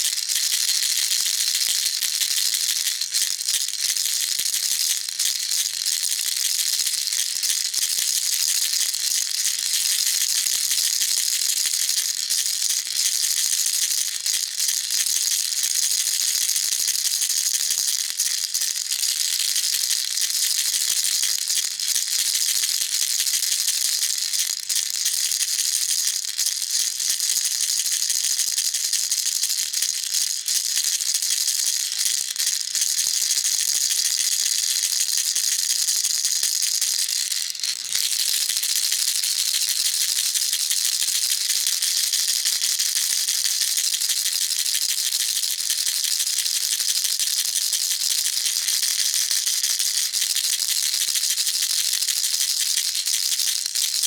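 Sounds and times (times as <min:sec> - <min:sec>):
baby rattle shaken: 0:00.0 - 0:24.9, 0:26.1 - 0:54.0.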